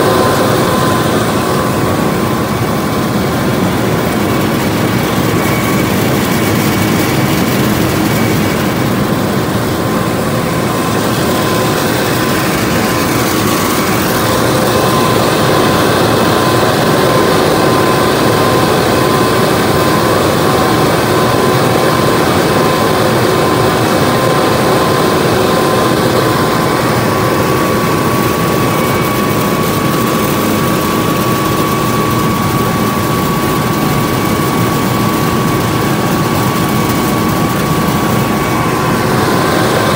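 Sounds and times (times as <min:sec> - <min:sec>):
constant high whine: 0:00.0 - 0:39.9
heavy harvester machine noise: 0:00.0 - 0:39.9.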